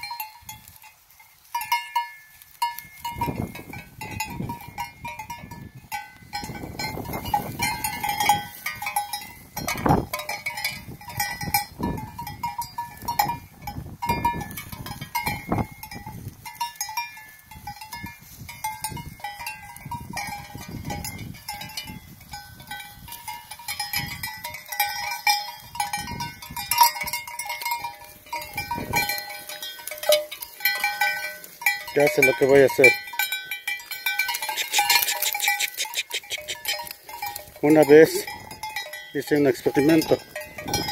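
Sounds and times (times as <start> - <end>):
sheep bells clanking: 0.0 - 40.9.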